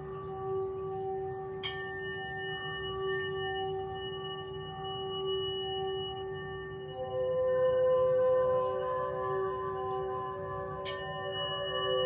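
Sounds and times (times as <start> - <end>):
wavering ringing tone: 0.0 - 12.0.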